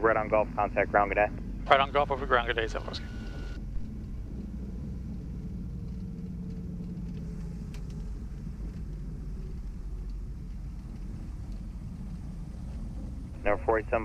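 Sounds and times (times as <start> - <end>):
twin piston engines droning: 0.0 - 14.0.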